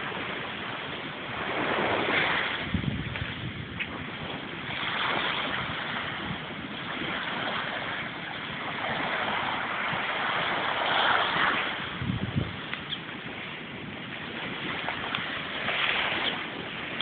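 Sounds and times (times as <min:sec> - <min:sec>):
small waves on sandy shore: 0:00.0 - 0:17.0.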